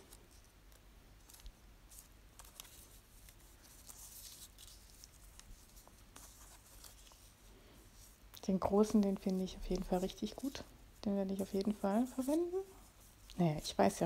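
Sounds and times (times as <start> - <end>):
paper and stickers rustling: 0.0 - 14.0.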